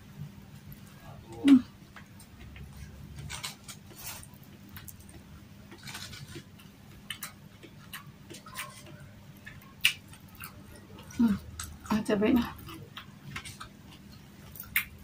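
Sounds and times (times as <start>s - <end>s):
faint low hum: 0.0s - 15.0s
close chewing: 0.7s - 15.0s.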